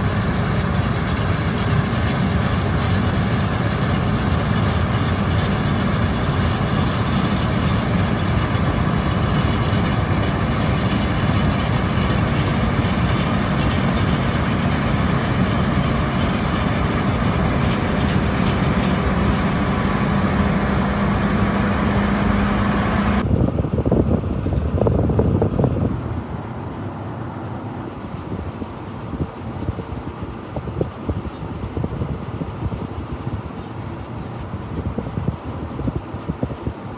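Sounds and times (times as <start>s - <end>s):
combine harvester engine drone: 0.0s - 36.9s.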